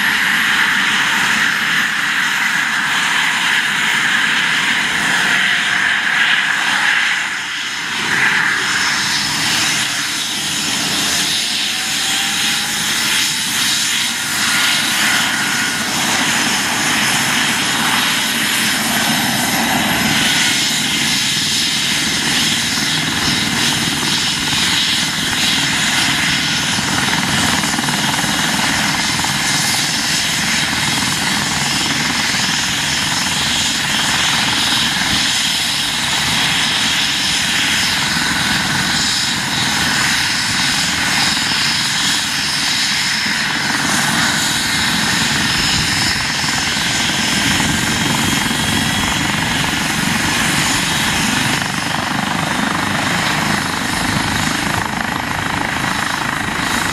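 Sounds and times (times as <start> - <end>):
helicopter rotor noise: 0.0 - 56.9
helicopter turbine whine: 0.0 - 56.9.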